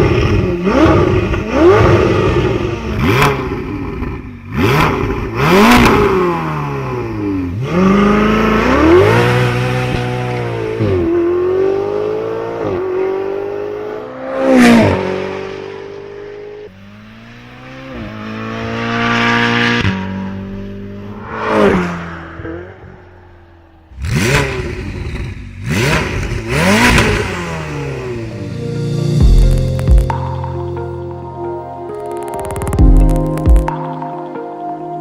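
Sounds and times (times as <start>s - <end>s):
sports car engine revving: 0.0s - 30.9s.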